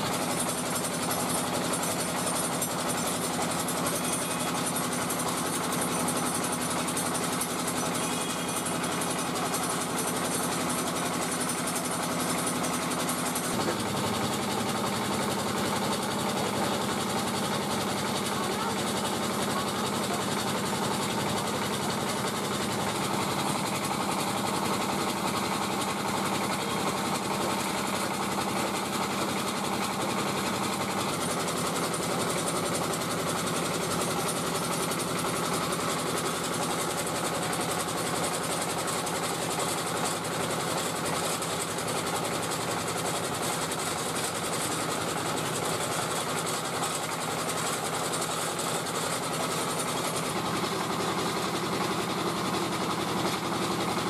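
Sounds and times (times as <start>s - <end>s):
engine driving extruder machine: 0.0s - 54.0s.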